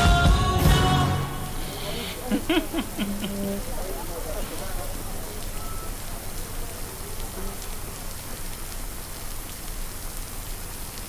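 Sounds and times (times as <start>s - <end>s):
rain-like hiss: 0.0s - 11.0s.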